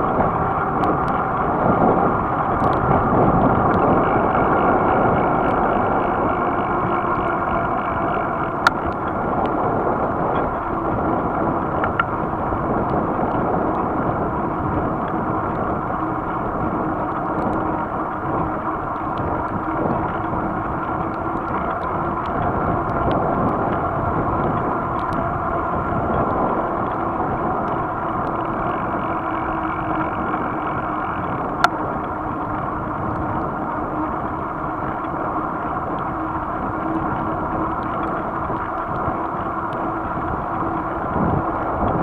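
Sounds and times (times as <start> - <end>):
bicycle tyre and wind noise: 0.0 - 42.0.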